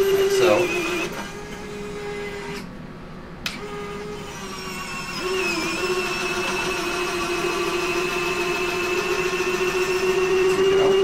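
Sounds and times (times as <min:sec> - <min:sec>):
electric motors whining: 0:00.0 - 0:02.7, 0:03.4 - 0:11.0.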